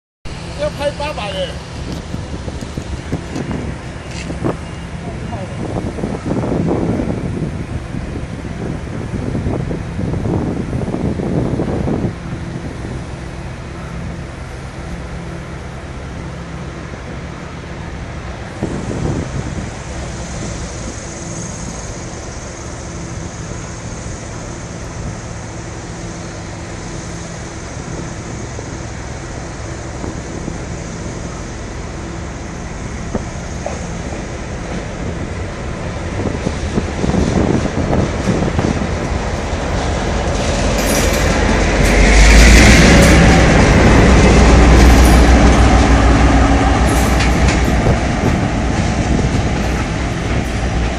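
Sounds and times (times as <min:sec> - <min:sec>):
locomotive engine running: 0:00.3 - 0:50.9
train wheels on rails: 0:00.3 - 0:50.9.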